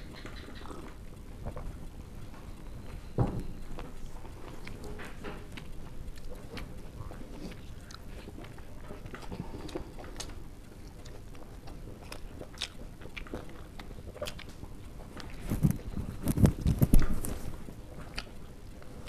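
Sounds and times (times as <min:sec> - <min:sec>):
faint steady hum: 0:00.0 - 0:19.0
people chewing with wet mouth smacks: 0:00.0 - 0:19.0.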